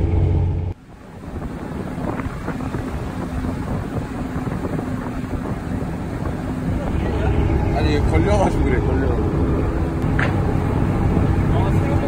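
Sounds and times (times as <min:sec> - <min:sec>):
boat engine hum: 0:00.0 - 0:12.0
water splashing past hull: 0:00.0 - 0:12.0
wind buffeting microphone: 0:00.8 - 0:12.0.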